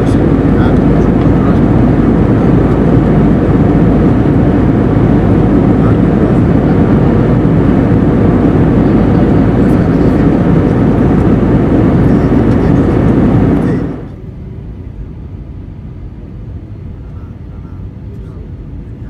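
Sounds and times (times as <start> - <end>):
airplane cabin noise: 0.0 - 19.0.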